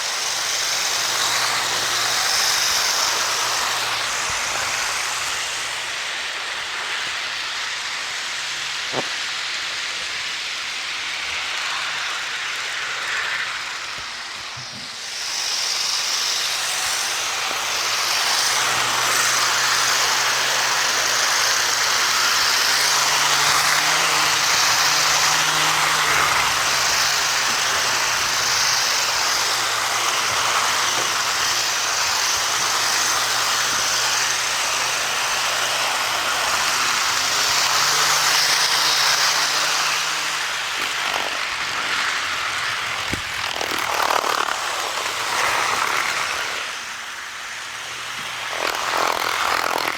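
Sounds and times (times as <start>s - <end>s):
model train motor hum: 0.0s - 49.9s
wheels rolling on track: 0.0s - 49.9s.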